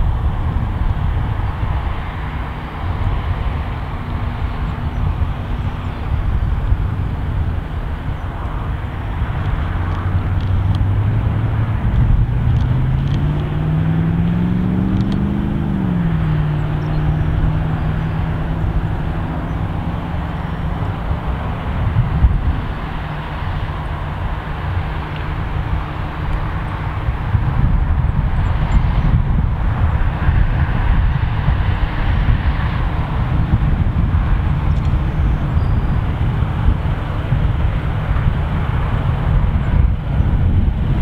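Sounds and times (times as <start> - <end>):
engine hum: 0.0 - 41.0.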